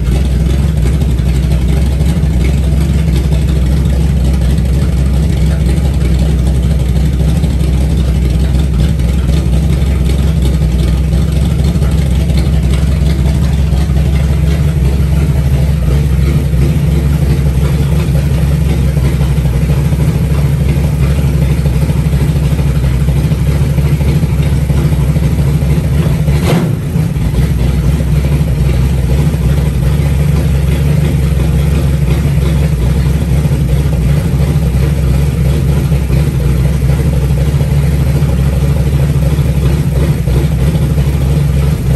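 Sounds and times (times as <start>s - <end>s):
engine running with deep exhaust: 0.0s - 41.9s.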